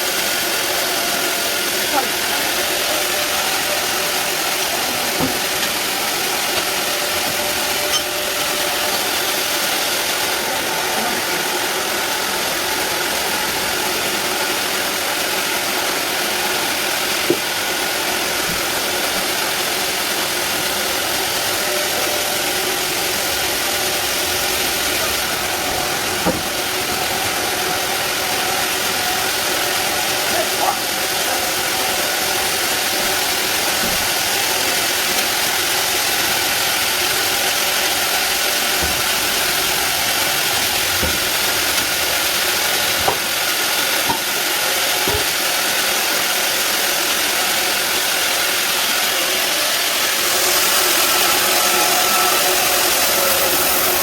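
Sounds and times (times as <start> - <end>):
band sawmill running: 0.0 - 54.0.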